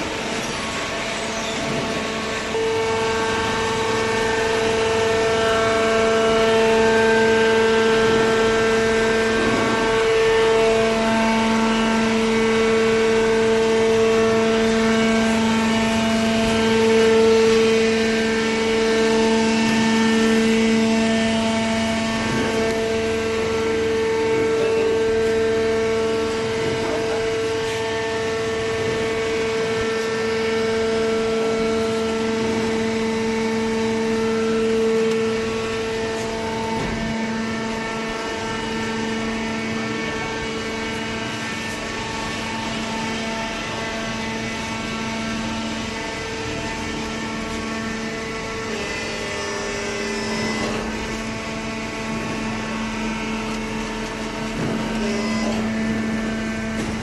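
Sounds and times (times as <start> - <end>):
hydraulic power unit whining: 0.0 - 57.0.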